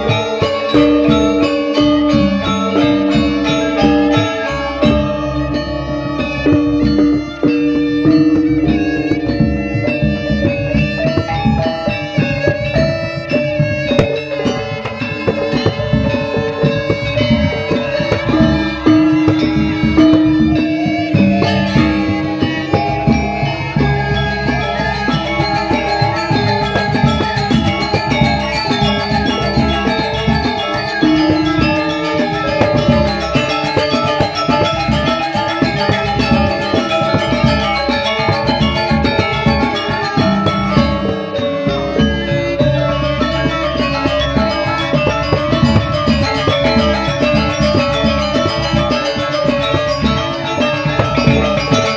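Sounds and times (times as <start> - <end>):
hand drumming: 0.0 - 51.9
metallophones ringing: 0.0 - 51.9.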